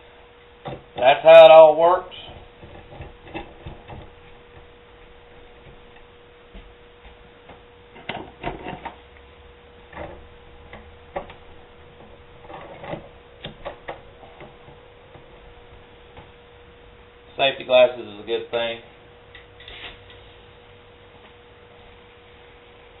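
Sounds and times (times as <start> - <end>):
steady faint hum: 0.0 - 23.0.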